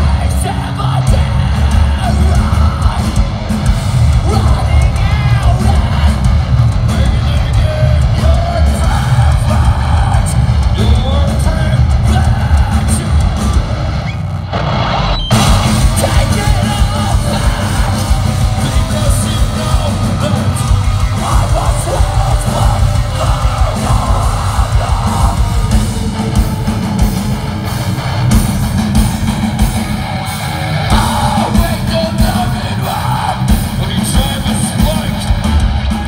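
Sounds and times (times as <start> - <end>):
vocals: 0.0 - 14.2, 15.2 - 36.0
metal band playing live: 0.0 - 36.0.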